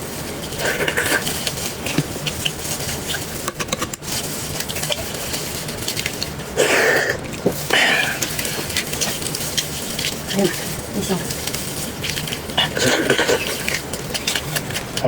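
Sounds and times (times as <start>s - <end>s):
chewing and wet mouth noises: 0.5s - 15.0s.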